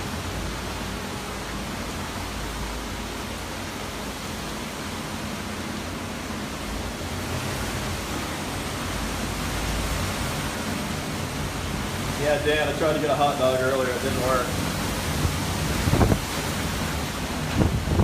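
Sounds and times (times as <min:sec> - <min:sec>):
hurricane wind roaring: 0:00.0 - 0:18.0.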